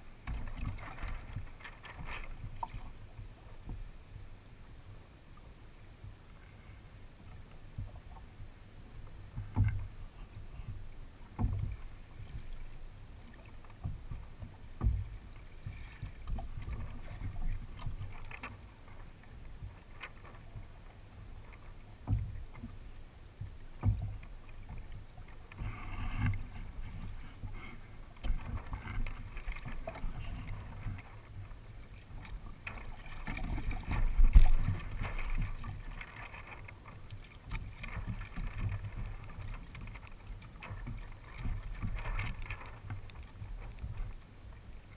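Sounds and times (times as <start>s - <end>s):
water lapping against hull: 0.0s - 44.9s.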